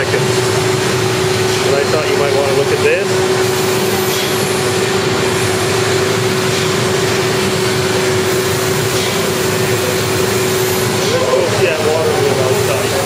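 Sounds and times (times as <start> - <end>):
engine room machinery drone: 0.0 - 13.0.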